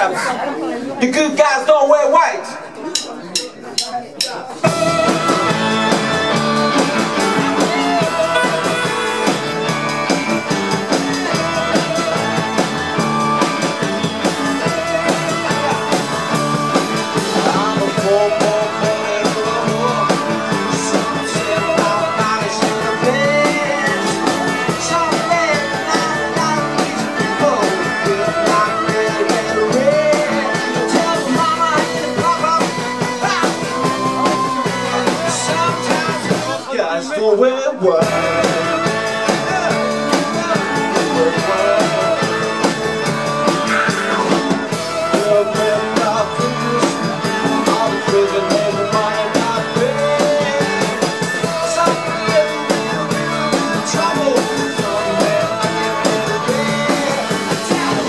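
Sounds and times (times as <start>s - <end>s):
keyboard: 0.0s - 58.0s
drum kit: 2.7s - 36.7s, 38.0s - 58.0s
electric bass: 4.6s - 36.7s, 37.9s - 58.0s
electric guitar: 4.6s - 36.7s, 38.0s - 58.0s
man singing into a microphone: 4.8s - 10.3s, 11.2s - 58.0s.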